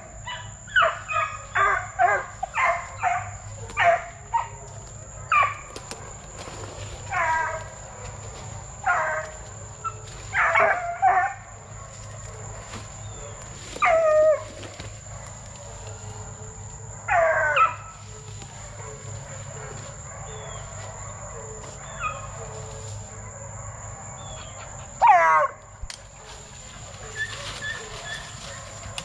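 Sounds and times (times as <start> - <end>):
hounds barking: 0.0 - 29.0.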